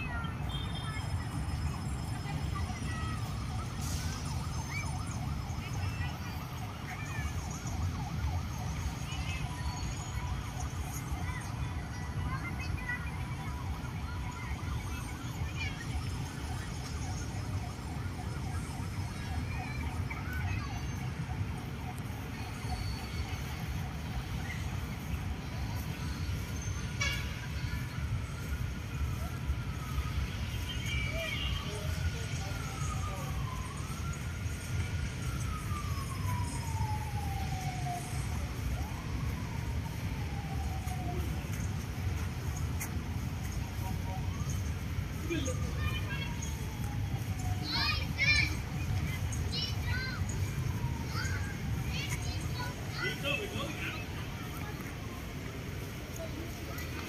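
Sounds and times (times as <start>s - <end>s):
faint siren yelping: 0.0s - 57.0s.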